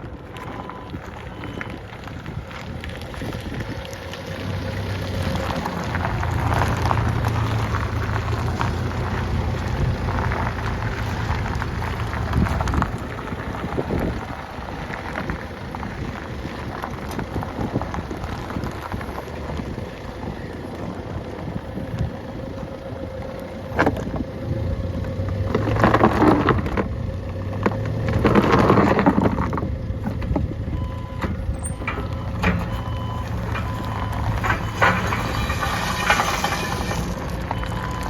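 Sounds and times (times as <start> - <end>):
forklift engine running: 0.0 - 38.0.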